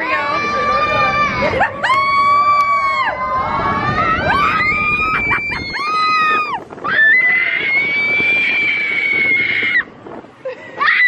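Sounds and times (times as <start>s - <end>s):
coaster train rumble: 0.0s - 10.8s
riders screaming: 0.1s - 9.9s.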